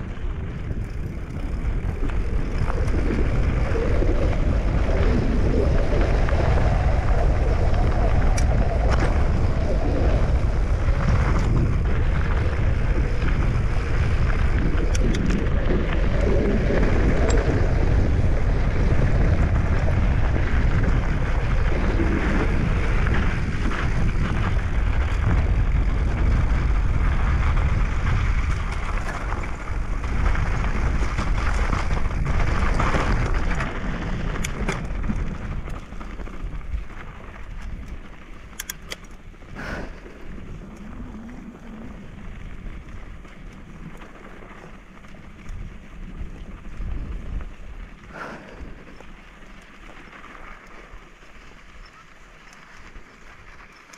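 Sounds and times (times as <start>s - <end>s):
vehicle rumbling: 0.0s - 53.9s
wind buffeting microphone: 0.0s - 53.9s.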